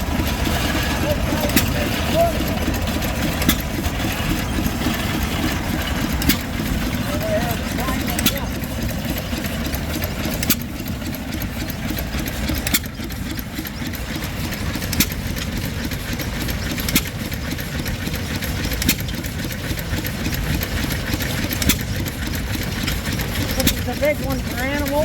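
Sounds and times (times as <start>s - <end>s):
stationary engine running with pops: 0.0s - 25.0s.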